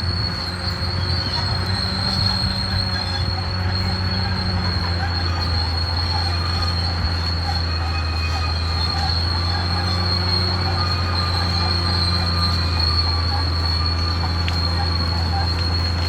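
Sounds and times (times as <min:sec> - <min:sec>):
diesel engine drone: 0:00.0 - 0:16.0
high-pitched metallic track squeal: 0:00.0 - 0:16.0.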